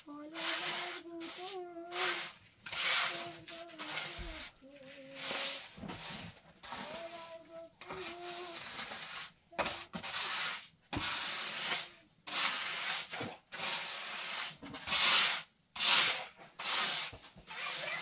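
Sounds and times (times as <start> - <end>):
scraping strokes: 0.0 - 18.0.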